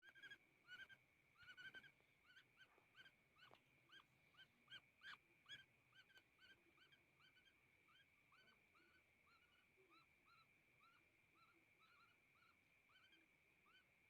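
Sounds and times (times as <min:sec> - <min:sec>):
young woodpecker calling: 0:00.0 - 0:13.9.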